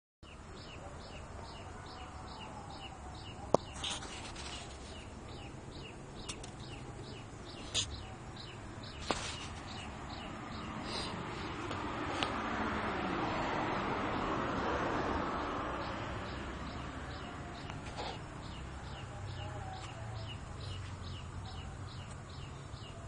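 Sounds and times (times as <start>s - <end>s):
bird chirping: 0.2s - 11.7s, 15.8s - 23.0s.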